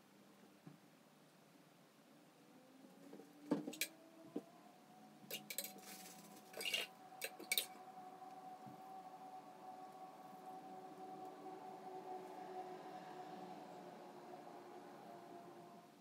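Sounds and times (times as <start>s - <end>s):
faint whine: 0.0s - 16.0s.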